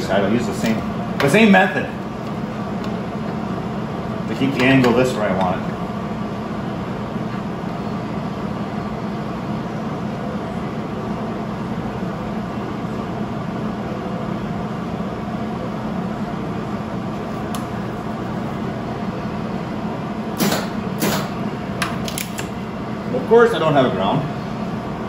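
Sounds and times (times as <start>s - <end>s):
fan humming: 0.0s - 25.0s.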